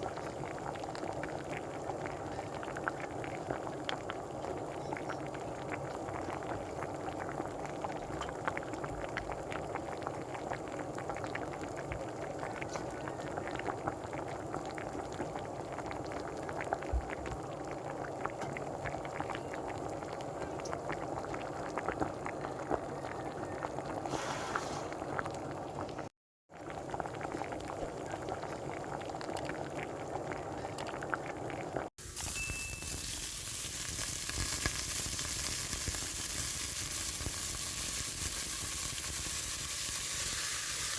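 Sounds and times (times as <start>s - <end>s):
food frying in oil: 0.0s - 40.9s
pot bubbling and popping: 0.0s - 40.9s.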